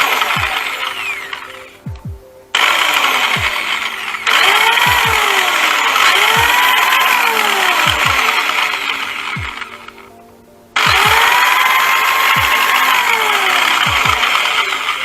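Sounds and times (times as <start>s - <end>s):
electronic music: 0.0s - 15.0s.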